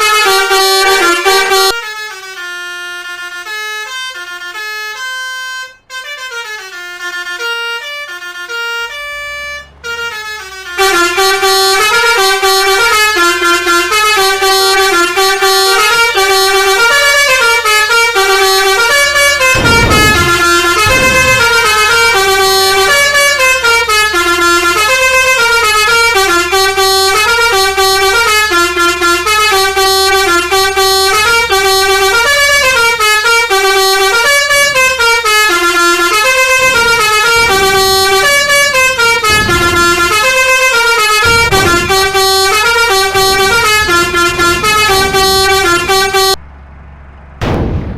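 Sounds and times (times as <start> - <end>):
multi-tone bus horn melody: 0.0 - 47.3
low engine hum: 0.0 - 47.9.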